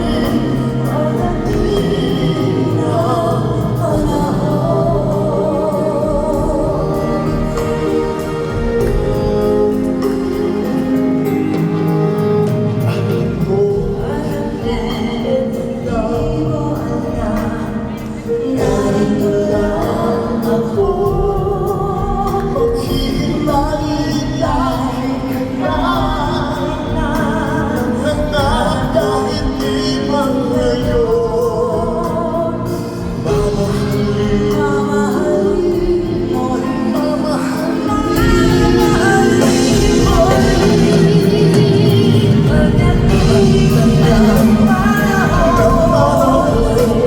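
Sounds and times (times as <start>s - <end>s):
instrumental accompaniment: 0.0s - 47.0s
person singing: 0.0s - 47.0s.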